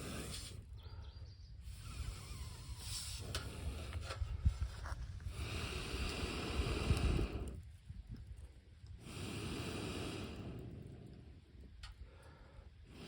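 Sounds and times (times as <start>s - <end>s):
rushing of flame: 0.0s - 0.8s, 1.6s - 13.0s
campfire crackles and pops: 1.7s - 13.0s.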